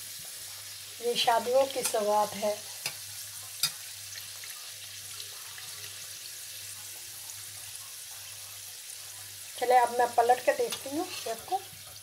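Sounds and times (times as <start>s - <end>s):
pastries sizzling in hot oil: 0.0s - 12.0s.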